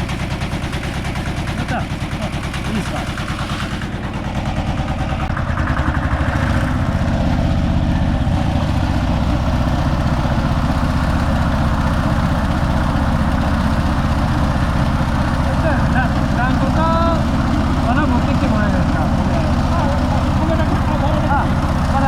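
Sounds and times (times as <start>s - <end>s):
thresher machine running: 0.0s - 22.0s.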